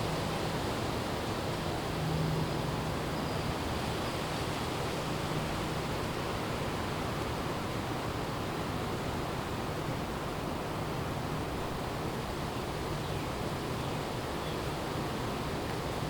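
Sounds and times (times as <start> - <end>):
strong wind through trees: 0.0 - 16.0.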